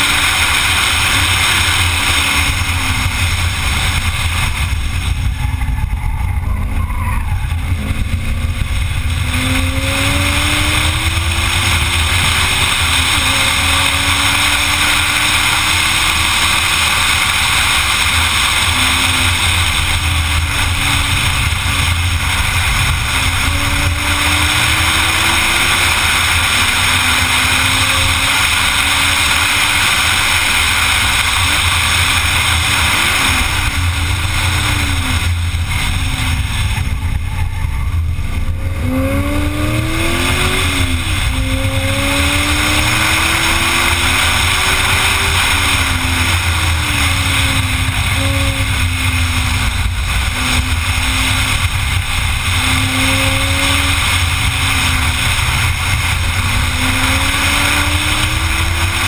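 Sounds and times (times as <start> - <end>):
sports car engine at speed: 0.0 - 59.0.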